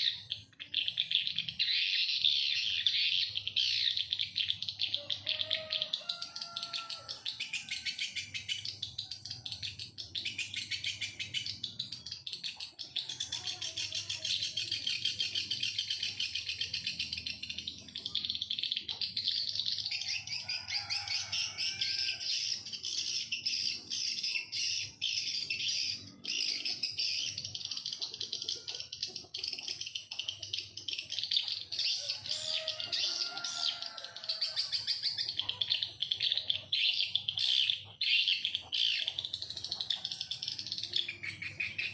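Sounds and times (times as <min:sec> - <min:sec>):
high-pitched bird chirping: 0:00.0 - 0:41.9.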